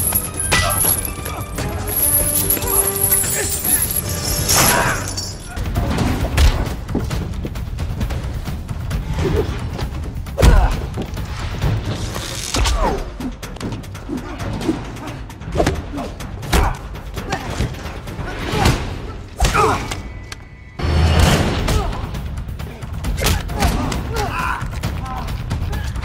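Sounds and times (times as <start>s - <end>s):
action film music: 0.0s - 26.0s.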